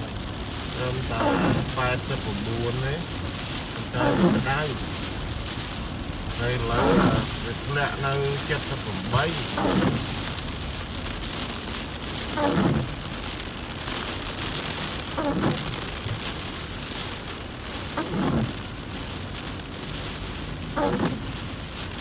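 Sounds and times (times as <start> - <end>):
heavy rain on car: 0.0 - 22.0
windshield wipers swishing: 0.0 - 22.0.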